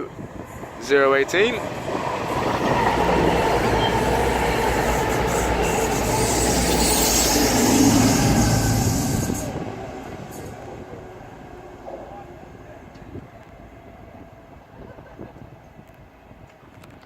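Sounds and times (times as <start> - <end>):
diesel train passing at speed: 0.0 - 16.4.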